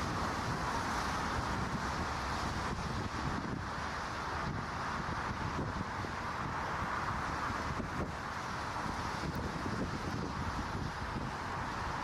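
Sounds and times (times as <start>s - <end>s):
jet engine noise: 0.0s - 12.0s
wind buffeting microphone: 0.0s - 12.0s.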